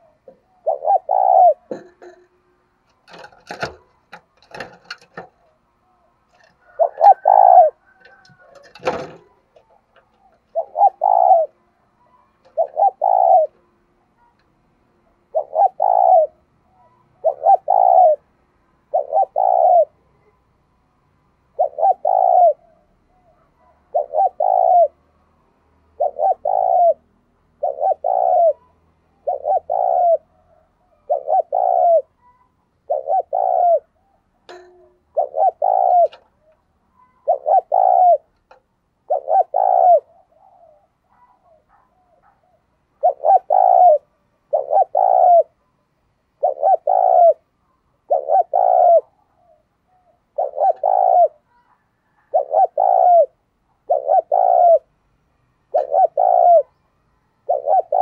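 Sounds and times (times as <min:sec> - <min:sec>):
dove cooing: 0:00.0 - 0:14.4, 0:15.0 - 0:20.4, 0:21.4 - 0:25.0, 0:25.8 - 0:45.6, 0:46.4 - 0:54.9, 0:55.7 - 0:56.8, 0:57.4 - 0:58.0.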